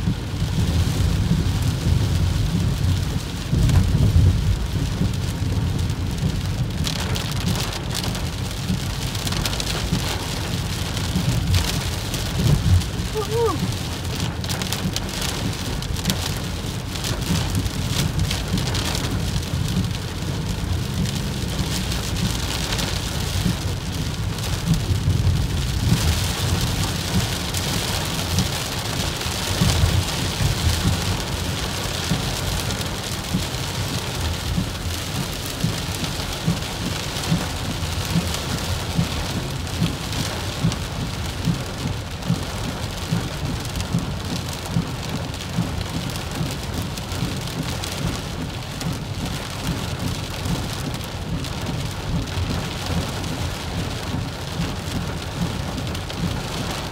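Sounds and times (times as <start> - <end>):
car rumble on wet road: 0.0 - 56.9
heavy rain on car: 0.0 - 56.9.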